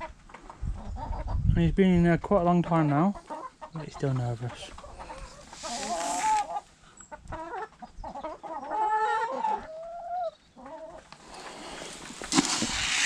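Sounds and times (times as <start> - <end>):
chickens clucking: 0.0 - 1.6, 2.2 - 13.0.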